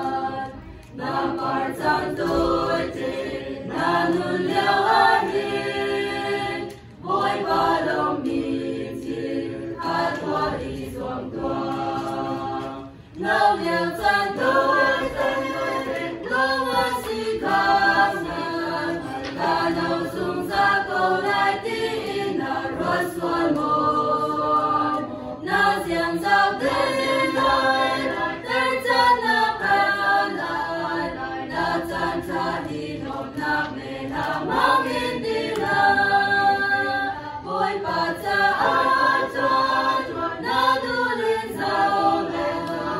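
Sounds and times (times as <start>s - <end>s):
choir singing a hymn: 0.0s - 42.9s.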